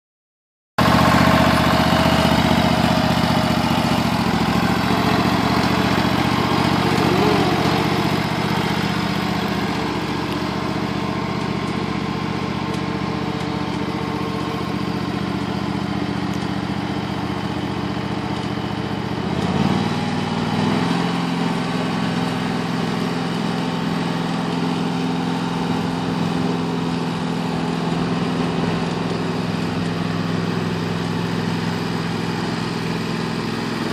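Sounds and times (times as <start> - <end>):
lawn tractor engine running: 0.8 - 33.9.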